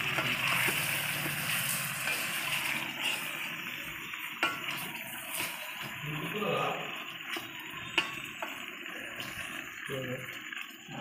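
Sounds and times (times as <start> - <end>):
spatula stirring: 0.0 - 9.8
chicken sizzling in a pot: 0.0 - 11.0.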